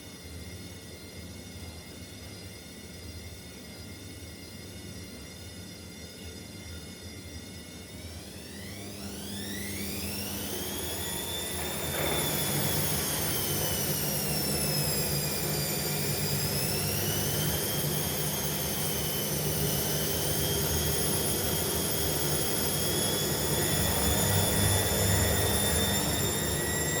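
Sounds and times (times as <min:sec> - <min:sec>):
washing machine motor whine: 0:00.0 - 0:27.0.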